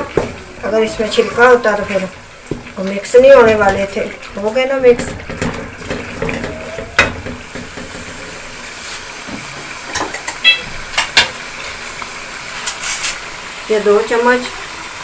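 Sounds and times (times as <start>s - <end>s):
sauce sizzling in a metal pan: 0.0s - 15.0s.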